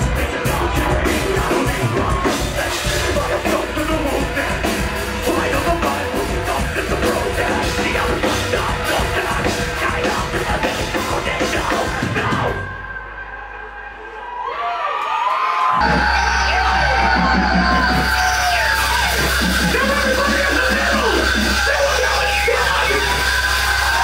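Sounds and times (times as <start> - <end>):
heavy metal band playing: 0.0 - 14.3, 15.8 - 24.0
yelled vocals: 0.0 - 14.5, 15.7 - 24.0.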